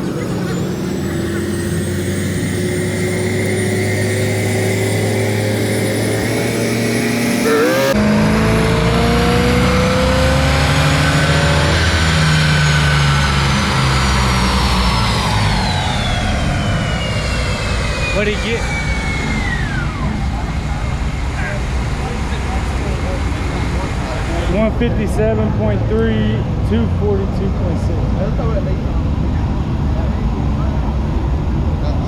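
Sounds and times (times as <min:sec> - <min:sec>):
high whine sliding down: 0:00.0 - 0:31.7
car engine accelerating: 0:00.0 - 0:32.0.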